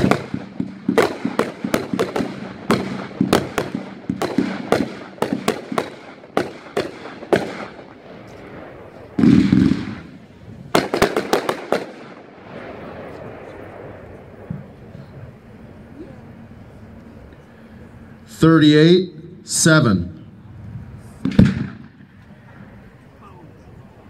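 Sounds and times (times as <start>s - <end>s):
firework cake firing: 0.0s - 17.4s, 20.5s - 23.2s
deep firework burst: 0.0s - 18.4s, 20.2s - 23.2s.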